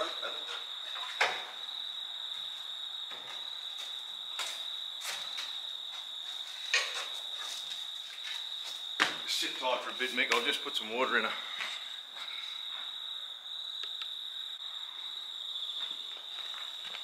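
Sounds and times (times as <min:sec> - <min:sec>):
cricket trilling: 0:00.0 - 0:17.0.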